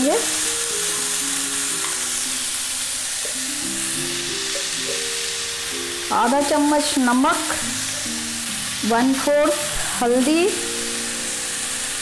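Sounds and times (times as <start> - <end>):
seeds sizzling in oil: 0.0 - 12.0
simple background melody: 0.0 - 12.0.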